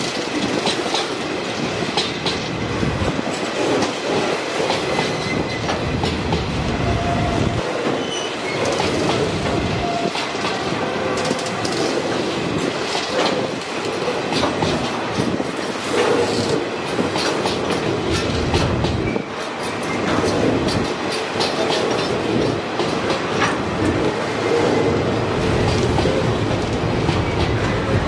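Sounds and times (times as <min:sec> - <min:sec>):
train wheels on rail: 0:00.0 - 0:28.0
wheels clacking over rail joints: 0:03.1 - 0:28.0.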